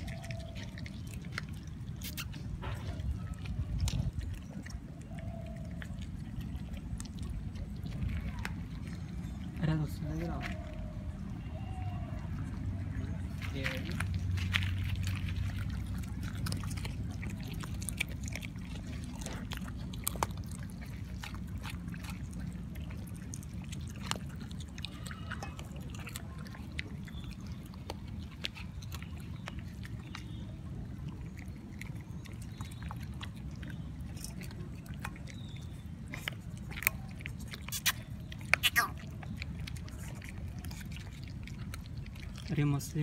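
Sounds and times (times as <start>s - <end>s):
low steady rumble: 0.0s - 43.0s
puppies chewing and lapping: 0.0s - 43.0s.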